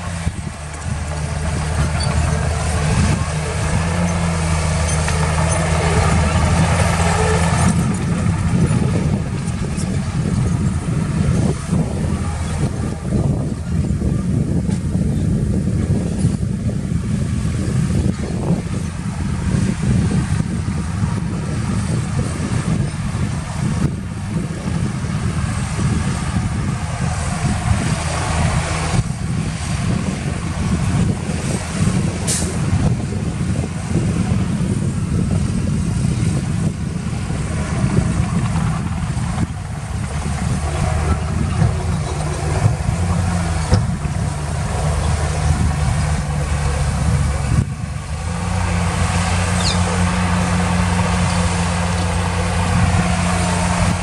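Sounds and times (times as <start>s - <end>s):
diesel earthmoving machines running: 0.0s - 54.0s.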